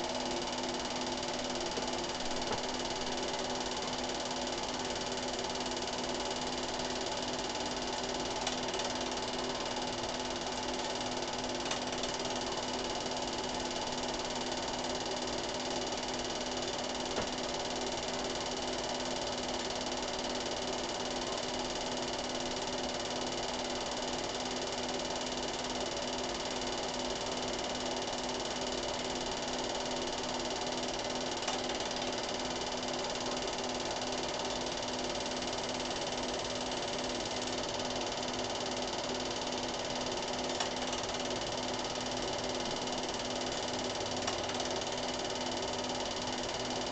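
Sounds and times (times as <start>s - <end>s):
film projector whirring: 0.0s - 46.9s.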